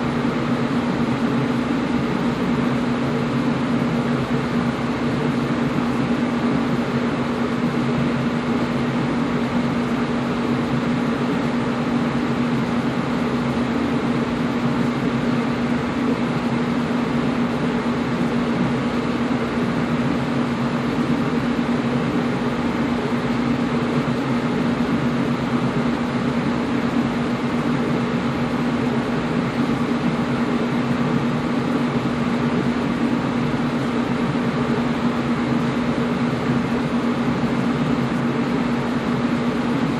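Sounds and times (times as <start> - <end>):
air conditioner blowing air: 0.0 - 39.9
low constant hum: 0.0 - 39.9.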